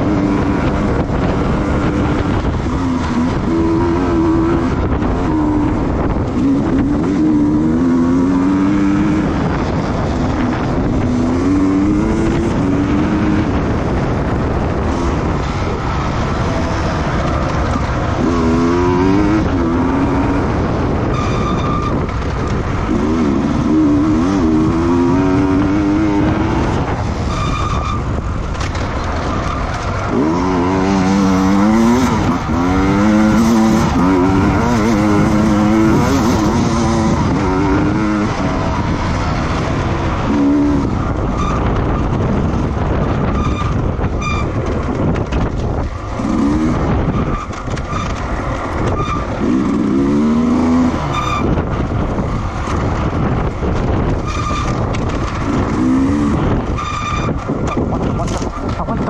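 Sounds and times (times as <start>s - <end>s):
racing engines accelerating: 0.0s - 59.0s
track noise roar: 0.0s - 59.0s.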